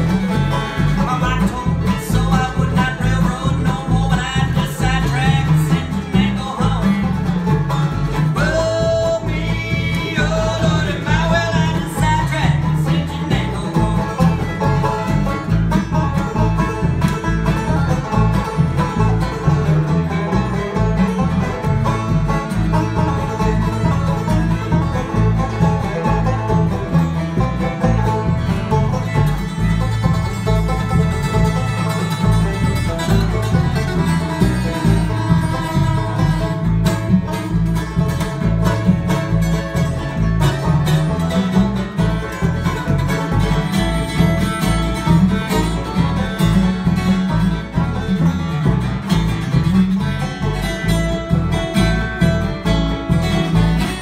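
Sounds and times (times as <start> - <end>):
banjo: 0.0 - 54.0
bluegrass band playing: 0.0 - 54.0.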